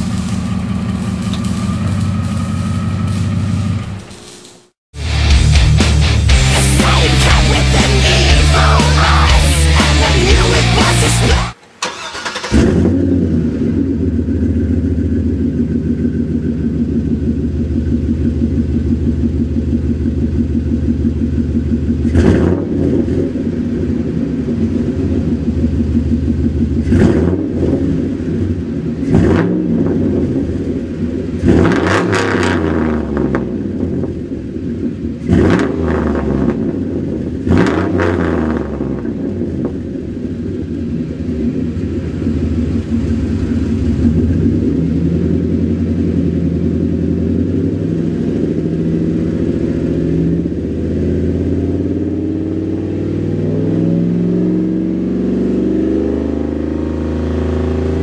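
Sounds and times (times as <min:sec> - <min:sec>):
engine revving: 0:00.0 - 0:58.0
truck engine starting and idling: 0:00.0 - 0:58.0.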